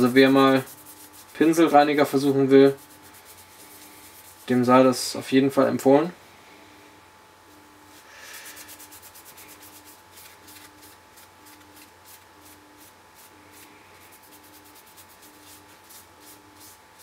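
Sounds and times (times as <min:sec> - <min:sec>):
paper rubbing on circuit board: 0:00.0 - 0:04.7, 0:07.9 - 0:17.0.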